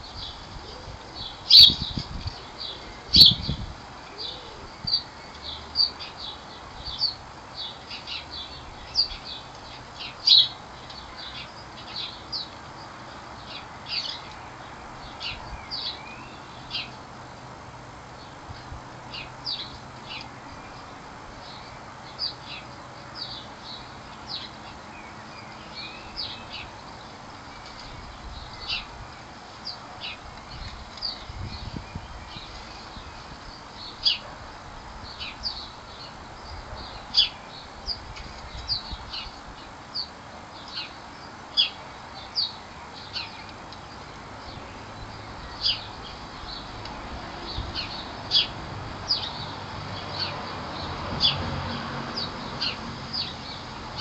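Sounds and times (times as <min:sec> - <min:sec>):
small birds chirping: 0:00.0 - 0:17.5, 0:18.2 - 0:54.0
faint outdoor background: 0:00.0 - 0:54.0.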